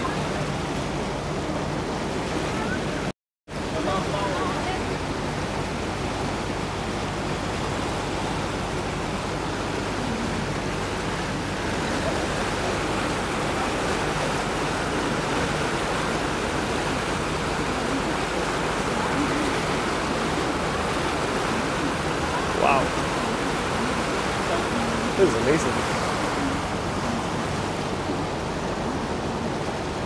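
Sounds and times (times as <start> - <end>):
low boat engine hum: 0.0 - 30.0
rushing water noise: 0.0 - 30.0.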